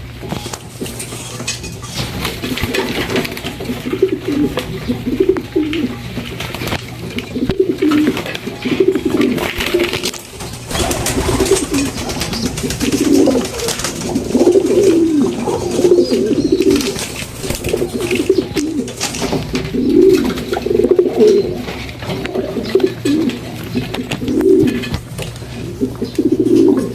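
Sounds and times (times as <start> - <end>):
pigeons cooing: 0.0 - 26.9.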